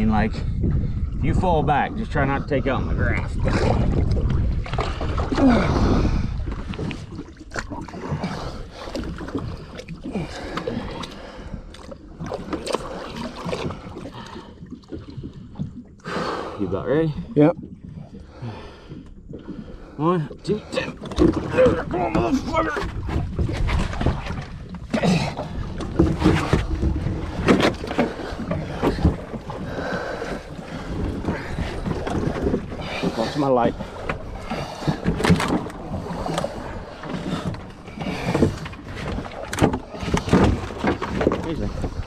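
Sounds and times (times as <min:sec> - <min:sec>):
wind rumbling on microphone: 0:00.0 - 0:20.0, 0:21.0 - 0:42.0
water sloshing against boat hull: 0:00.0 - 0:42.0.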